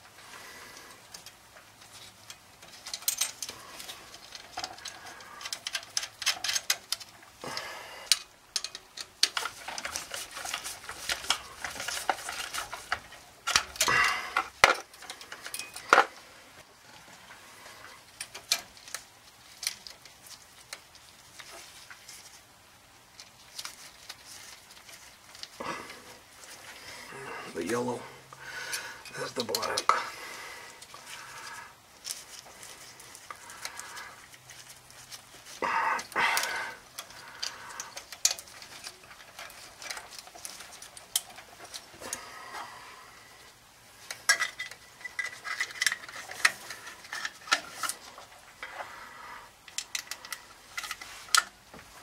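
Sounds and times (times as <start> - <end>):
clicks and scrapes of handling parts: 0.0 - 52.0.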